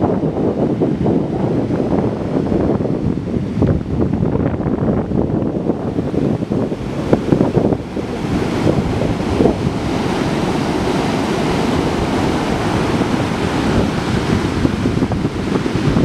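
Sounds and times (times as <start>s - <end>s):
ocean surf breaking: 0.0s - 16.0s
wind buffeting microphone: 0.0s - 16.0s.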